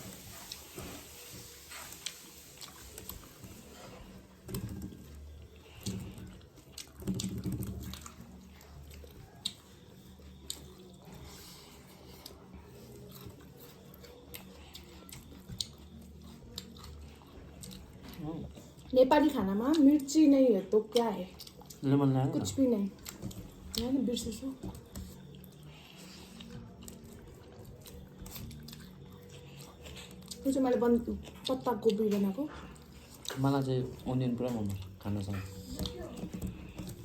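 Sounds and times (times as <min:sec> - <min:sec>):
chewing with wet mouth clicks: 0:00.1 - 0:20.2, 0:20.9 - 0:37.0.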